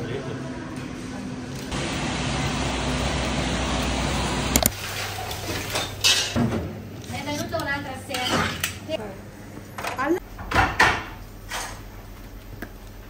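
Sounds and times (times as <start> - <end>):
cooking range rumble: 1.2 - 13.0.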